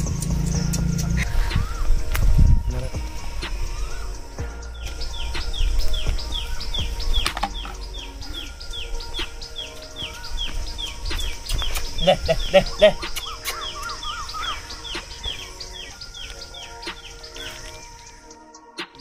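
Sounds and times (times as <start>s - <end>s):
louder lower bird calls: 0.0s - 18.3s
bird chirping: 0.0s - 19.0s.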